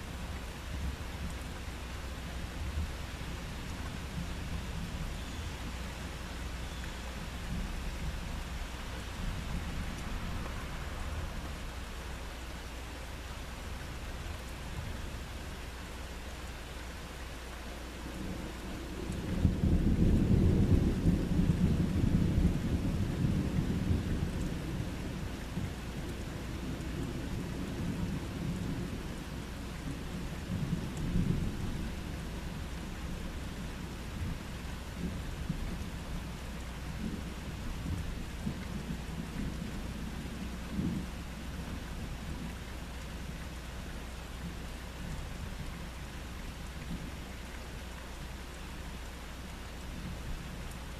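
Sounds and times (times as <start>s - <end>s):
rain hissing: 0.0s - 50.9s.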